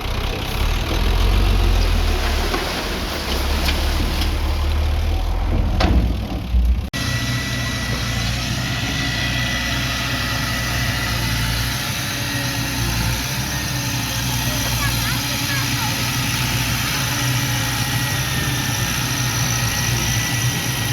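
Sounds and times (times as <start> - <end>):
diesel engines rumbling: 0.0 - 20.9.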